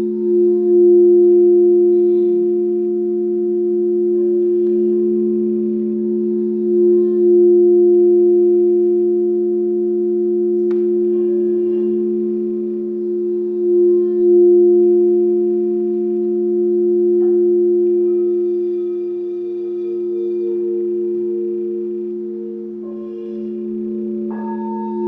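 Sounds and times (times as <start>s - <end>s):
high pulsing tone: 0.0s - 25.0s
singing bowl strike: 0.0s - 25.0s
singing bowls droning tones: 0.0s - 25.0s.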